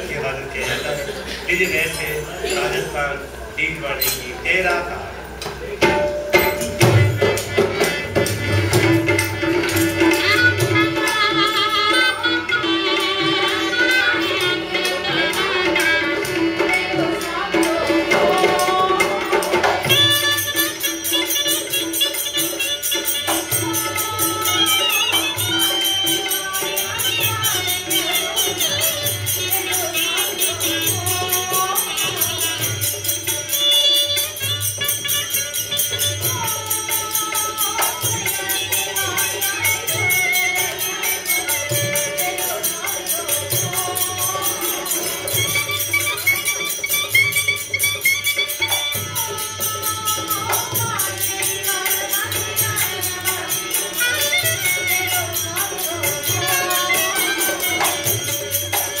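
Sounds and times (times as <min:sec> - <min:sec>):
small cymbals jingling: 0:00.0 - 0:59.0
hand drum: 0:05.4 - 0:59.0.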